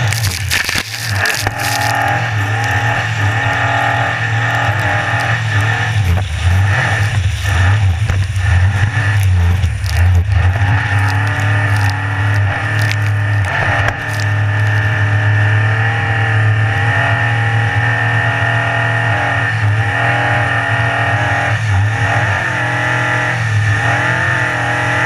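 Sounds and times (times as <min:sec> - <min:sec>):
powerboat engine running at speed: 0:00.0 - 0:25.0.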